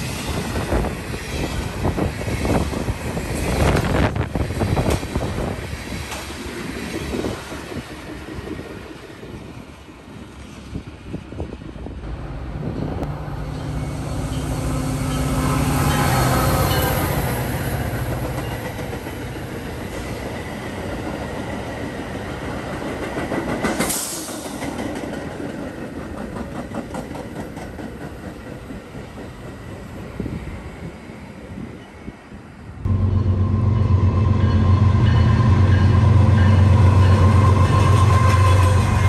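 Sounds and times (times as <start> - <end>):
train cars rumbling: 0.0 - 32.2, 32.8 - 39.0
diesel locomotive engine: 0.0 - 39.0.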